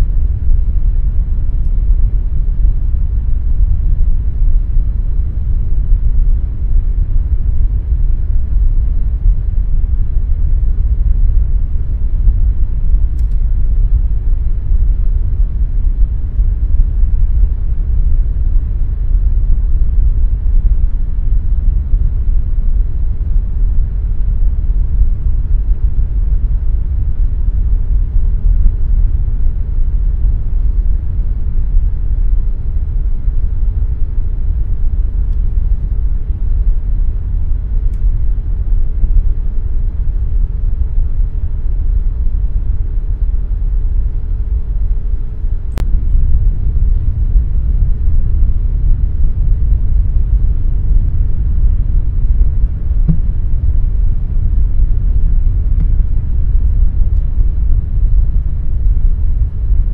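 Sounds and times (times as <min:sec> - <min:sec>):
air conditioner rumble: 0:00.0 - 0:59.9
faint hum: 0:00.0 - 0:59.9.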